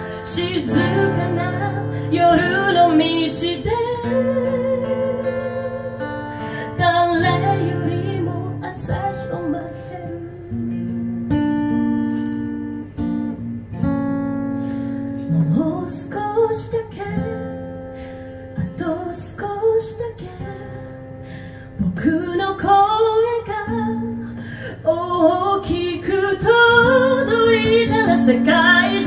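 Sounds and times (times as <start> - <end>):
woman singing: 0.0 - 11.0, 15.1 - 17.9, 18.5 - 29.0
acoustic guitar strumming chords: 0.0 - 19.2, 20.5 - 29.0.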